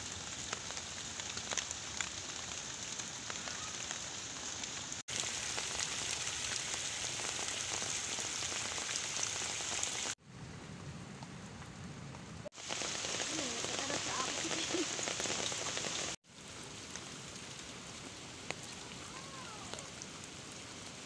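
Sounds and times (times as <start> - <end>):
heavy rain on leaves: 0.0 - 21.0
water running in a channel: 0.1 - 10.2, 12.5 - 21.0.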